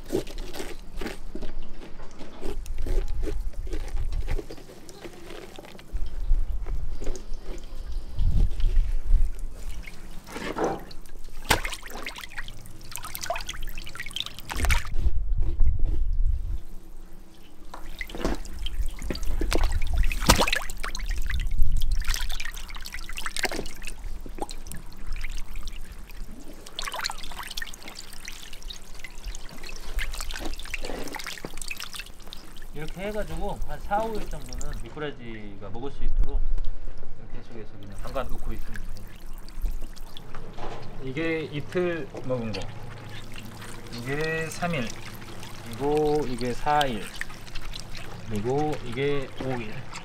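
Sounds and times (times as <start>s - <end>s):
water trickling and splashing: 0.0s - 15.0s, 16.3s - 34.9s, 37.8s - 50.0s.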